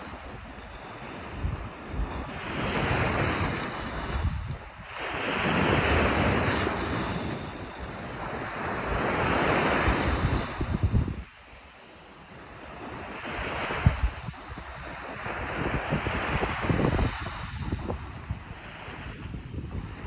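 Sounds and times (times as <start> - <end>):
small waves breaking on shore: 0.0 - 20.0
wind buffeting microphone: 0.0 - 20.0.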